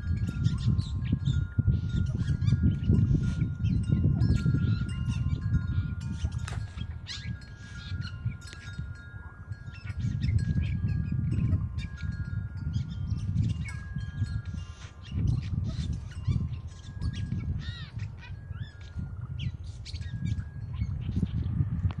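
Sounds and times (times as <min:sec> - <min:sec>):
wind chimes ringing: 0:00.0 - 0:22.0
blue jay calling: 0:00.4 - 0:21.4.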